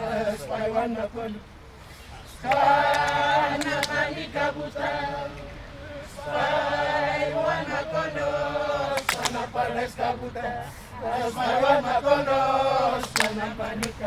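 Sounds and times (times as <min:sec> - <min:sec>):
group of voices chanting: 0:02.2 - 0:14.0.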